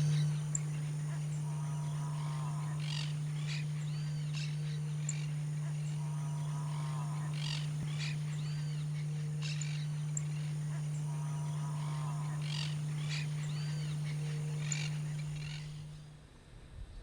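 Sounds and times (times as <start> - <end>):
bird song: 0.0 - 16.0
steady low hum: 0.0 - 17.0.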